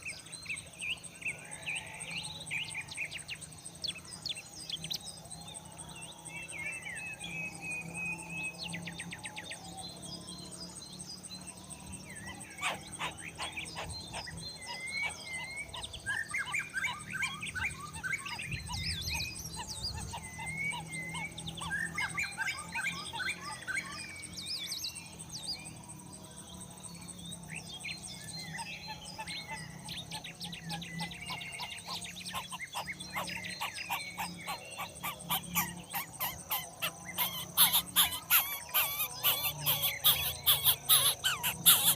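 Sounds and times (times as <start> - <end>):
birds chirping and trilling: 0.0 - 41.9
high-pitched insect buzz: 0.0 - 41.9.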